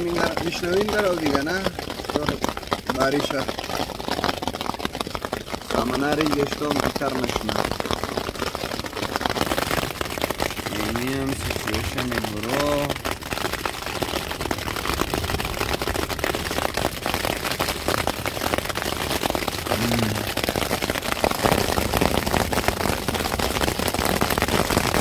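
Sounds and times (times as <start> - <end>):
heavy rain on a tent: 0.0 - 25.0.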